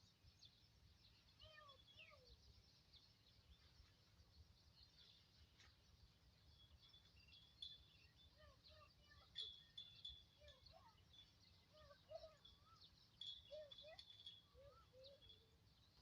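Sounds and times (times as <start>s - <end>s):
birds chirping and warbling: 0.0s - 16.0s.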